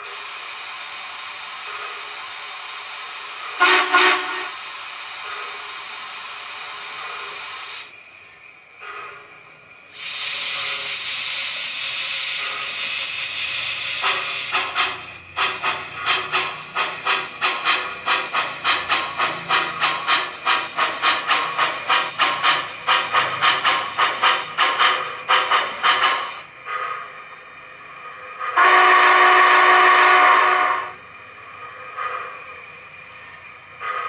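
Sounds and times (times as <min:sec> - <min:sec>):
steam hiss: 0:00.0 - 0:34.0
steam locomotive exhaust chuffs: 0:00.0 - 0:34.0.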